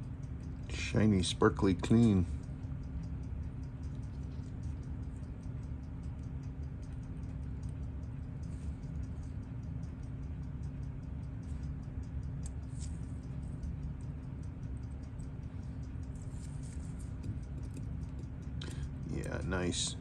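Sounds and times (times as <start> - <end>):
low hum: 0.0 - 20.0
rapid mechanical ticking: 0.0 - 20.0.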